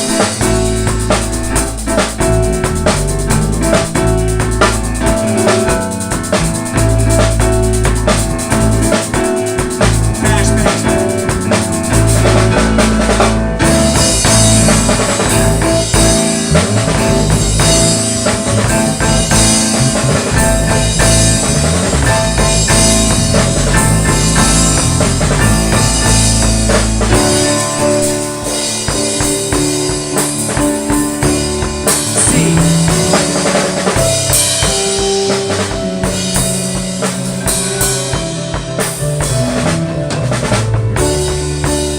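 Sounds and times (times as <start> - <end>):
deep bass notes: 0.0 - 41.9
drum kit: 0.0 - 41.9.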